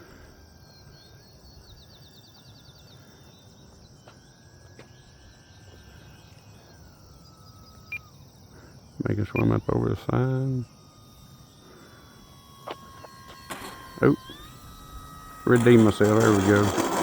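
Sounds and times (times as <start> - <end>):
distant electric motor whine: 0.0 - 17.0
insects chirping: 0.0 - 17.0
short fast insect trill: 0.0 - 17.0.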